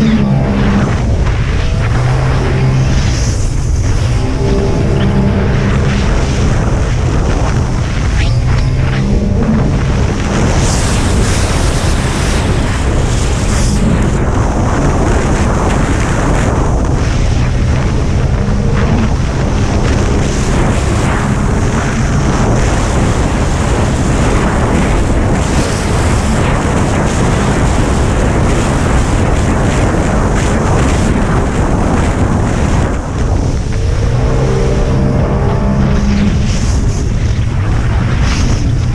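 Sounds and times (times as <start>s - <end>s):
jet ski engine: 0.0s - 38.9s
water rushing: 0.0s - 38.9s
wind buffeting microphone: 0.0s - 38.9s.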